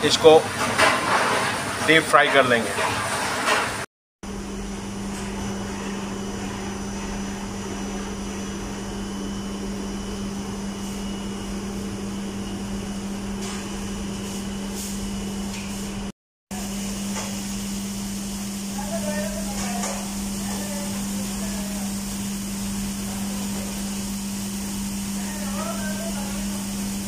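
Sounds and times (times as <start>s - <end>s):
kitchen machinery humming: 0.0s - 27.0s.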